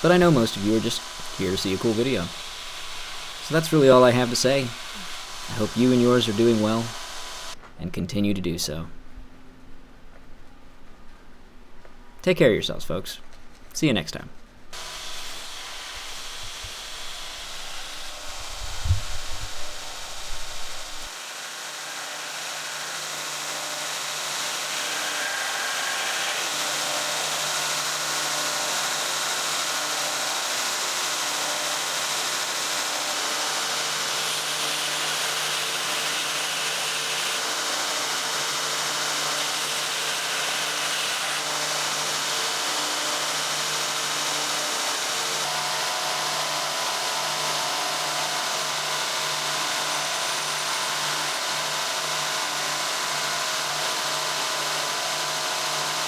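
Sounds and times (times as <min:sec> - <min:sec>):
power tool whirring: 0:00.0 - 0:07.6, 0:14.8 - 0:56.0.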